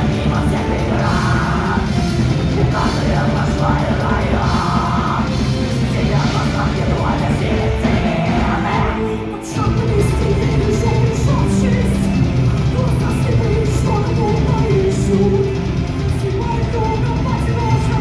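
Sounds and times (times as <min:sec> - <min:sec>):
heavy rock music with singing: 0:00.0 - 0:18.0.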